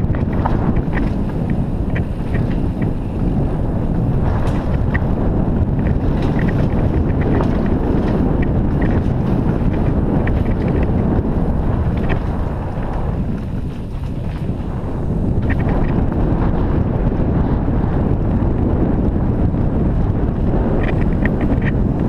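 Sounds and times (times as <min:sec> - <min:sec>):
bike clicks and rattles: 0:00.0 - 0:22.0
wind buffeting microphone: 0:00.0 - 0:22.0.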